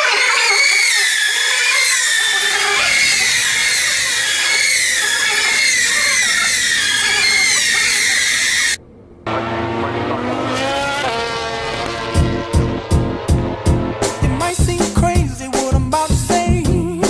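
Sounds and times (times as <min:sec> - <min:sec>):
racing motorcycle engines revving: 0:00.0 - 0:14.7.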